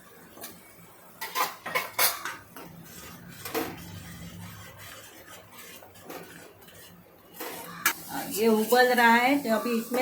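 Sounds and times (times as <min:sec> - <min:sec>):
spoon scraping and stirring in a pot: 0:00.3 - 0:10.0.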